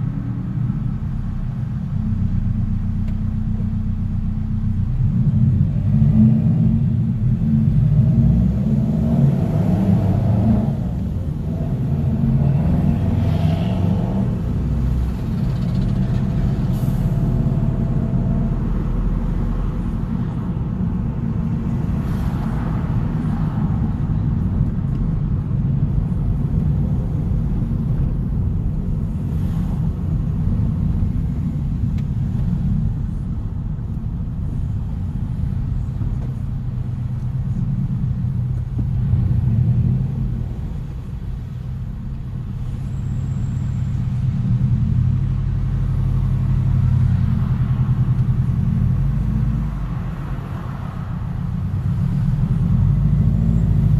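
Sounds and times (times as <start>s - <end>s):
car driving rumble: 0.0s - 53.9s.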